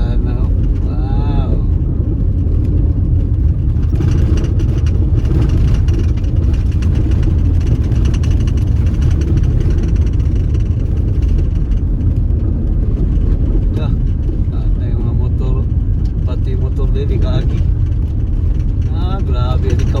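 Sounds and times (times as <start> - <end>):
gravel crackling under tyres: 0.0 - 20.0
tyre and engine rumble: 0.0 - 20.0.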